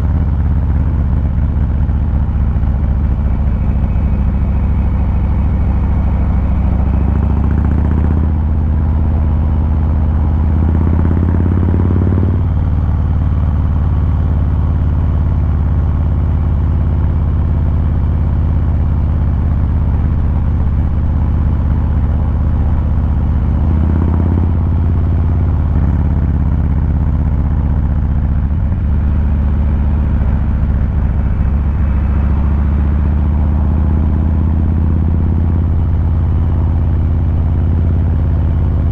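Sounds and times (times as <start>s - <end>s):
motorcycle exhaust revving: 0.0s - 38.9s.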